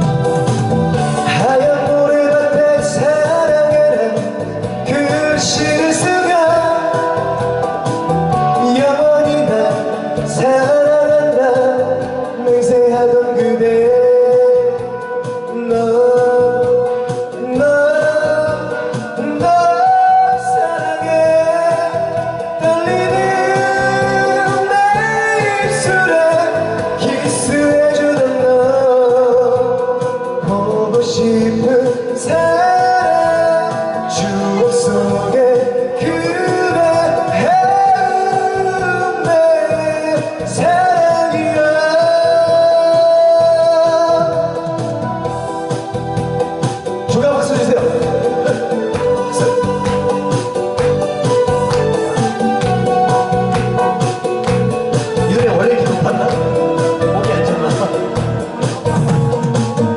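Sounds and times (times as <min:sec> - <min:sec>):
backing track music: 0:00.0 - 0:59.9
person singing: 0:00.0 - 0:59.9.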